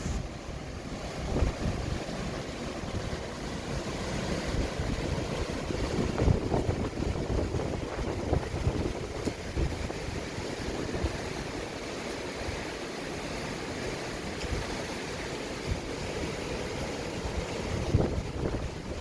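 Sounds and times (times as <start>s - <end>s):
sea waves breaking: 0.0s - 19.0s
wind buffeting microphone: 0.0s - 19.0s.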